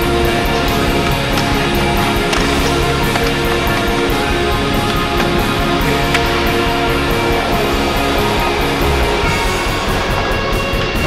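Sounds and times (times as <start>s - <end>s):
loud music with driving beat: 0.0s - 11.0s.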